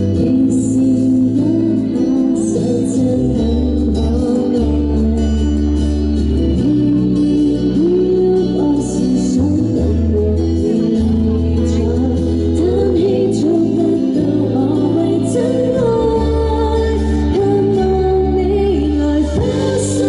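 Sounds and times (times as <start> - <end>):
backing track with bass and guitar: 0.0 - 20.0
woman singing into microphone: 0.0 - 20.0.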